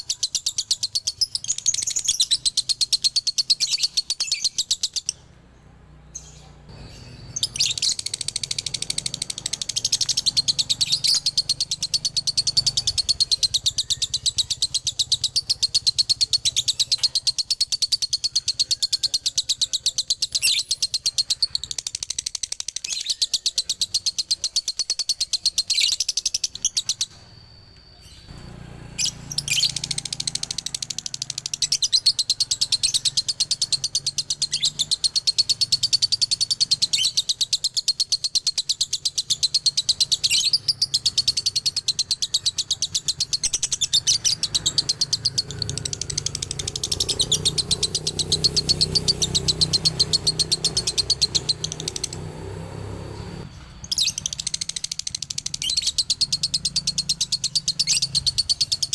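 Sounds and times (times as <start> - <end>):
lovebird chattering song: 0.0 - 5.5, 6.1 - 58.9.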